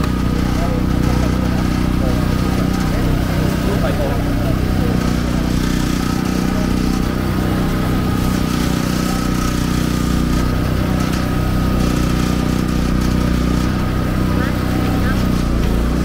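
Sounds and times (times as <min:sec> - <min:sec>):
small engine humming: 0:00.0 - 0:16.0.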